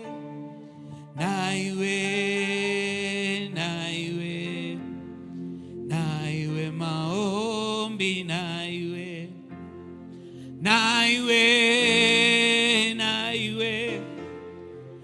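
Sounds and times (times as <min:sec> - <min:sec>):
person singing: 0:00.0 - 0:09.8, 0:10.5 - 0:14.6
held keyboard chords: 0:00.0 - 0:15.0.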